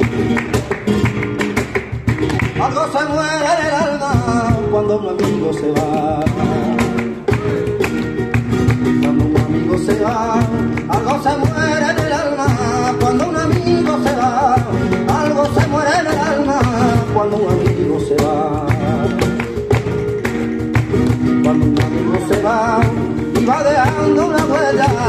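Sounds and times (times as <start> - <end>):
flamenco guitar: 0.0 - 25.0
hand claps: 0.0 - 25.0
man singing: 2.5 - 7.7, 8.7 - 20.2, 20.9 - 25.0.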